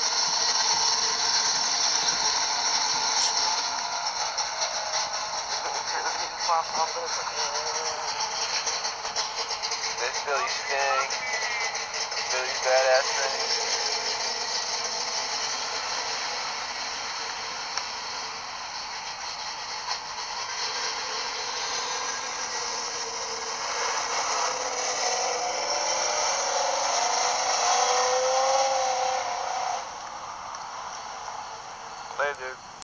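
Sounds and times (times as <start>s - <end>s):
car engine revving: 0.0s - 32.6s.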